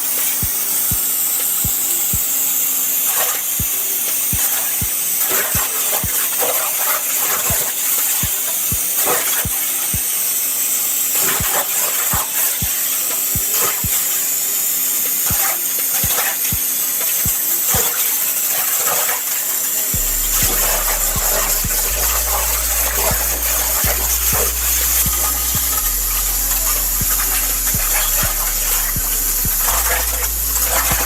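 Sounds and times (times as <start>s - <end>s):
constant hiss: 0.0s - 31.0s
music with thumping beat: 0.4s - 2.5s, 3.2s - 6.6s, 7.3s - 10.2s, 11.2s - 14.1s, 15.3s - 18.1s, 20.0s - 31.0s.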